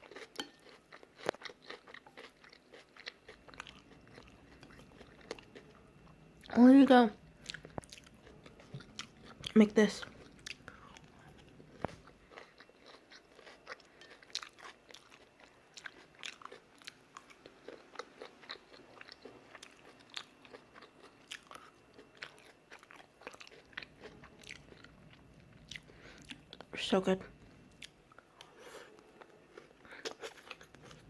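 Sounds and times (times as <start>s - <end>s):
chewing noodles: 0.0s - 6.5s, 7.4s - 26.7s, 27.7s - 31.0s.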